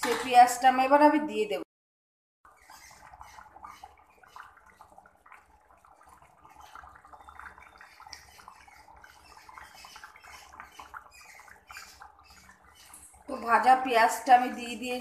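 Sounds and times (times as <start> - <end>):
gravy bubbling: 2.5 - 15.0.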